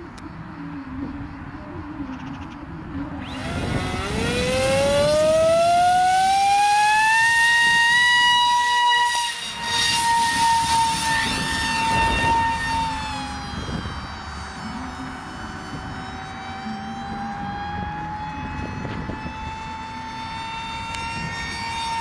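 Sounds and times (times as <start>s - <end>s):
electric motor propeller whine: 3.0s - 22.0s.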